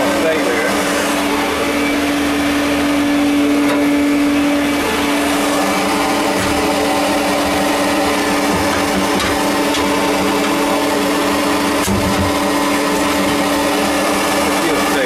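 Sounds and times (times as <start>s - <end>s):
vacuum motor humming: 0.0s - 15.0s.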